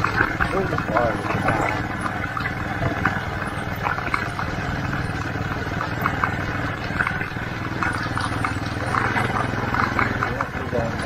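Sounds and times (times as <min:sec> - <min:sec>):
small vehicle rumbling: 0:00.0 - 0:11.0.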